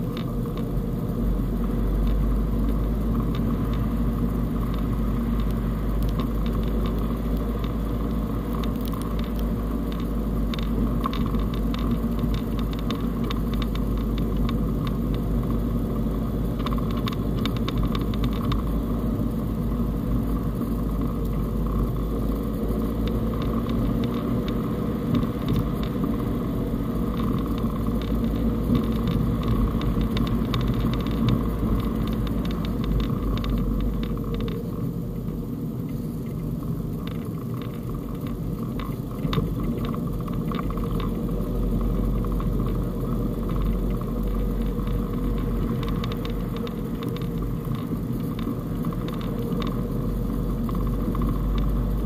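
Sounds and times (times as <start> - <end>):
car engine and road rumble: 0.0 - 52.0
light crackles and clicks: 0.0 - 52.0.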